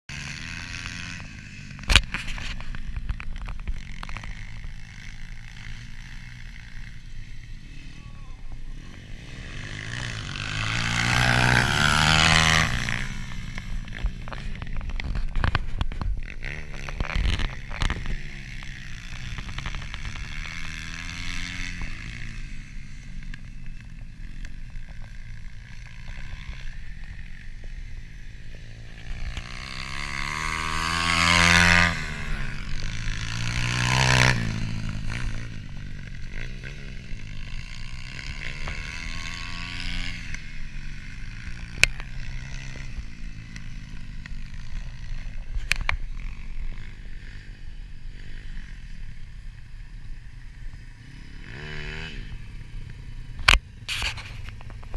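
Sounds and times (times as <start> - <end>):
dirt bikes revving: 0.1 - 54.9.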